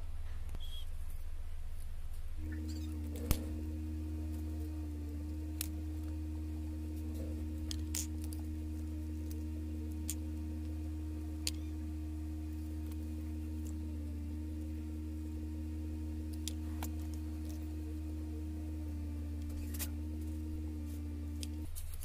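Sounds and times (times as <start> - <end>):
faint steady tones: 0.0 - 22.0
steady low hum: 0.0 - 22.0.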